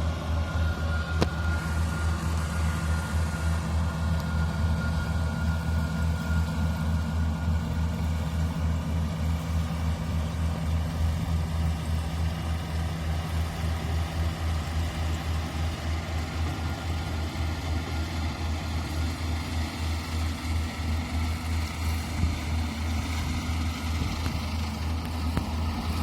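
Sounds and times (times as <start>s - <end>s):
diesel engine droning: 0.0s - 26.0s
thin high whine: 0.0s - 26.0s.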